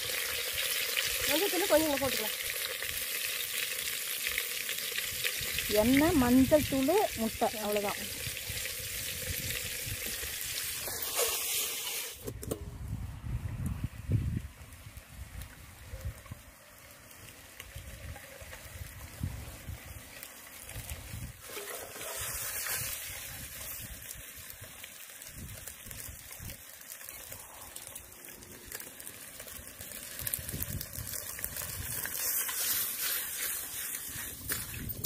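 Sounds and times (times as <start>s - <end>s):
eggs sizzling in oil: 0.0s - 12.2s, 14.9s - 35.0s.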